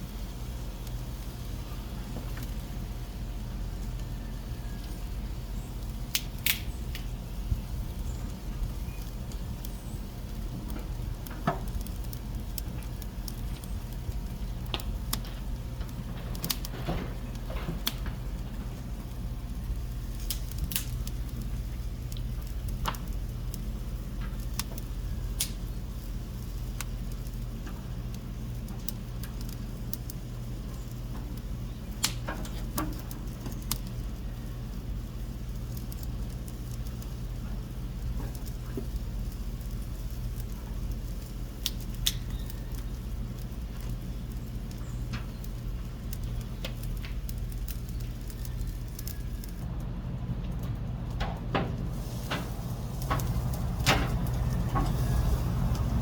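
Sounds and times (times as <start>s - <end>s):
meat sizzling over charcoal: 0.0s - 49.7s, 50.9s - 56.0s
coals crackling and popping: 0.0s - 56.0s.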